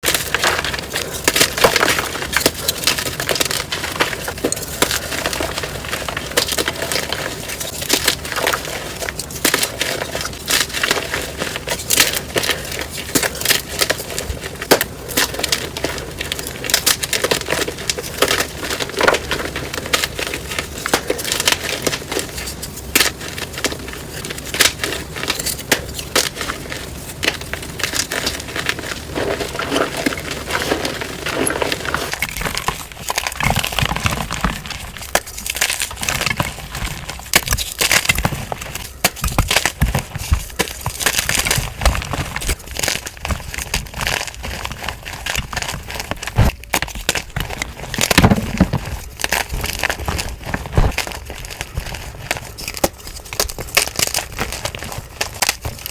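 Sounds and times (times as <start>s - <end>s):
chalk crunching and crackling: 0.0s - 55.9s.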